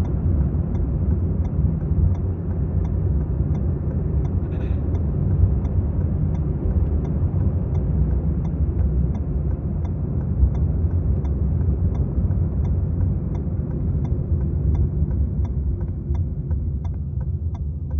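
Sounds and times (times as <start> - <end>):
car engine rumble while driving: 0.0 - 17.9
faint regular ticking: 0.0 - 17.9.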